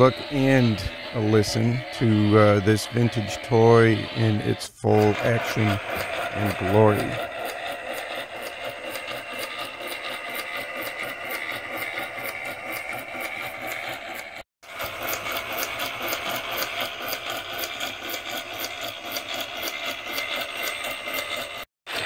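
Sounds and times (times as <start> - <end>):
rapid rhythmic clatter: 0.0 - 22.0
toy motor whirring buzz: 0.0 - 22.0.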